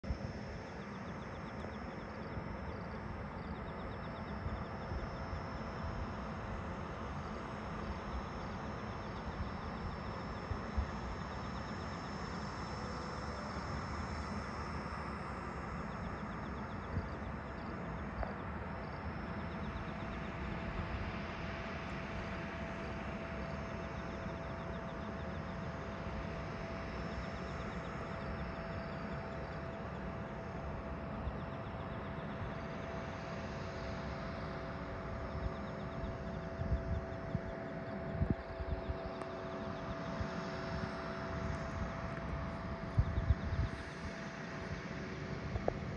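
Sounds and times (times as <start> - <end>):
lower whine: 0.0 - 45.9
steady whine: 0.0 - 45.9.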